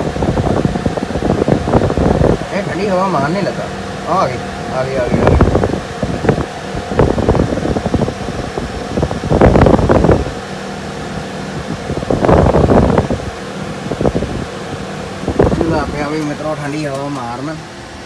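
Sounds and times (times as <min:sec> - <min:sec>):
wind buffeting microphone: 0:00.0 - 0:17.6
air conditioner fan humming: 0:00.0 - 0:18.0.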